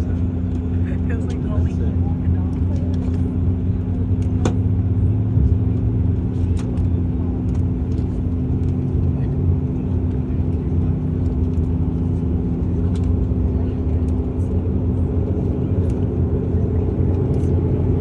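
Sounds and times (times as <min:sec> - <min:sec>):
turboprop engine droning: 0:00.0 - 0:18.0.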